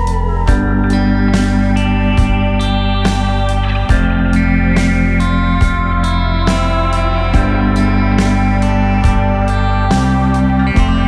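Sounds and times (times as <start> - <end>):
low drone: 0.0 - 11.0
sustained instrumental tones: 0.0 - 11.0.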